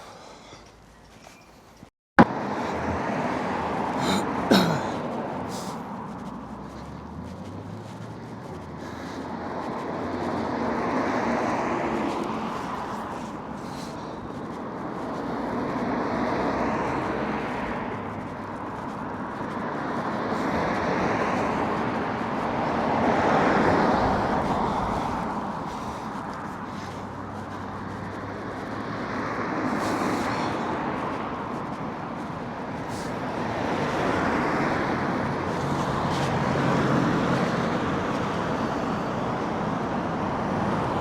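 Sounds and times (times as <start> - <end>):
cars passing on road: 0.0 - 41.0.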